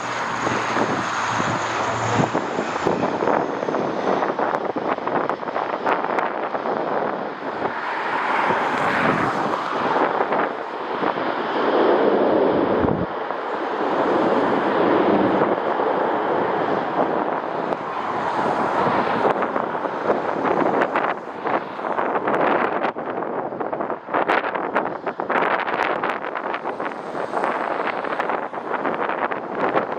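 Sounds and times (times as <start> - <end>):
gusty wind on microphone: 0.0 - 29.9.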